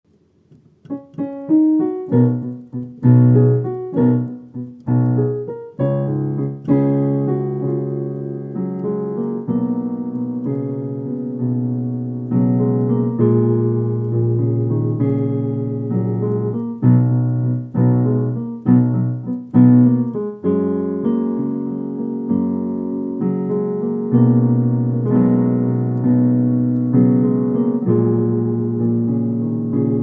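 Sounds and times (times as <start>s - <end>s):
slow piano piece: 0.1s - 30.0s.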